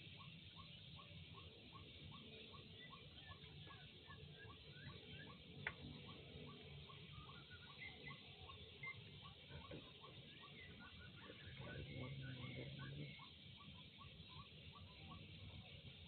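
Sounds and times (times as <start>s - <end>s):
faint animal chirping: 0.0s - 16.0s.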